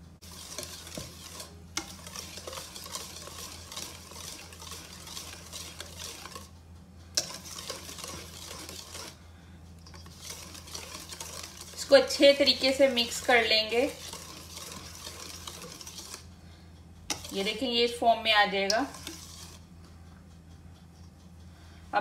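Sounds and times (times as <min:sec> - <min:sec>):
whisk scraping metal bowl: 0:00.2 - 0:09.2, 0:09.8 - 0:16.4, 0:17.1 - 0:19.8.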